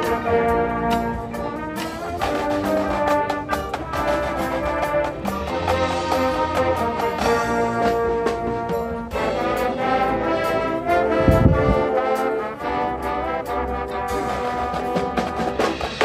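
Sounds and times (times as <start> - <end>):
marching band brass chords: 0.0 - 16.0
percussion strikes: 0.0 - 16.0.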